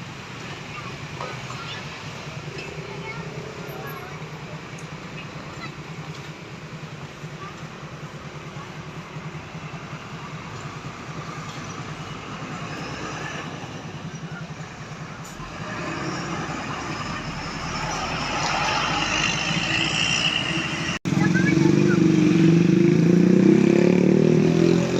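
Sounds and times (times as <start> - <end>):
vehicle engine running: 0.0 - 23.5
approaching vehicle road noise: 0.0 - 24.9.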